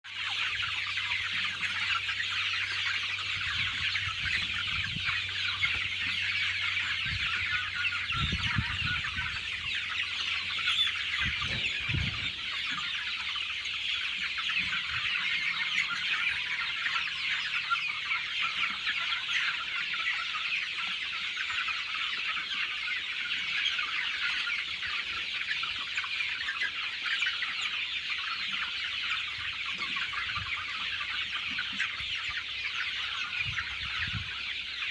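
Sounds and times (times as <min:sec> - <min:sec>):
chickens clucking and chirping: 0:00.0 - 0:34.9.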